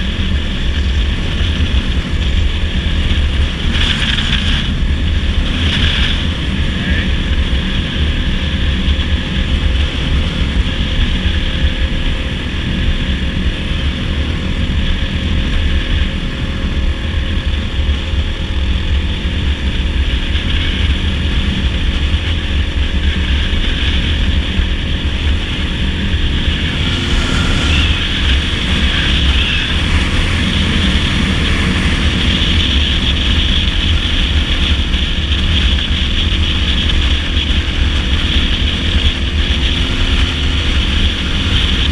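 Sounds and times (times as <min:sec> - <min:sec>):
dirt bike engine running: 0:00.0 - 0:41.9
wind rushing over microphone: 0:00.0 - 0:41.9.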